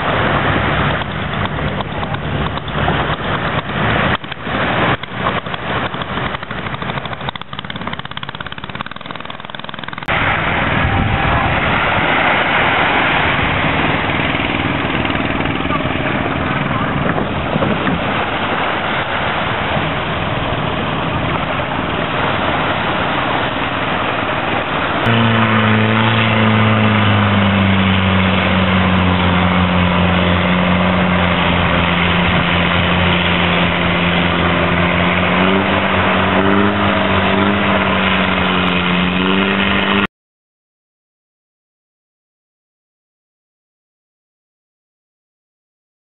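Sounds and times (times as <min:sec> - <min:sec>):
boat engine running: 0:00.0 - 0:40.1.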